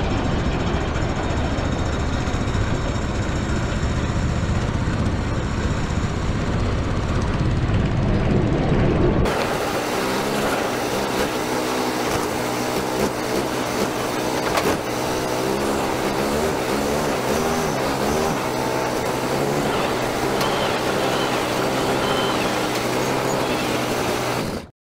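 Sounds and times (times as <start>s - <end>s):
petrol engine running: 0.0s - 24.7s.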